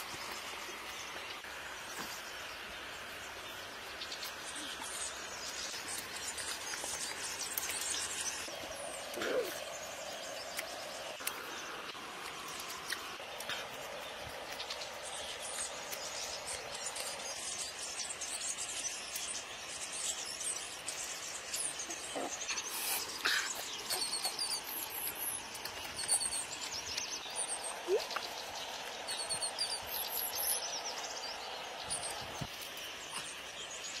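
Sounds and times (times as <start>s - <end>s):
small birds chirping: 0.0s - 34.0s
steady outdoor hiss: 0.0s - 34.0s.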